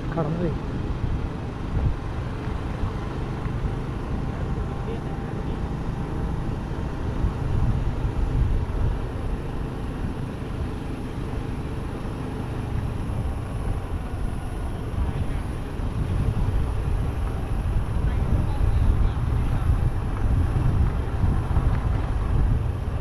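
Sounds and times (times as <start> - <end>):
vehicle engine and tyre rumble: 0.0 - 23.0.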